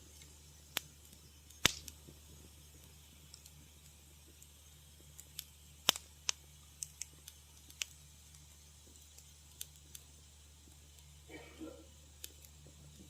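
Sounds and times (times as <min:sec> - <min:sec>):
faint low hum: 0:00.0 - 0:13.0
wood fire crackling: 0:00.0 - 0:13.0.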